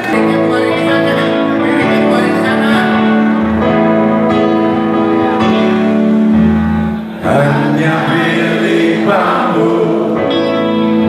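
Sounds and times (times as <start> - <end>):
low bass notes: 0.0 - 11.0
slow rock ballad band: 0.0 - 11.0.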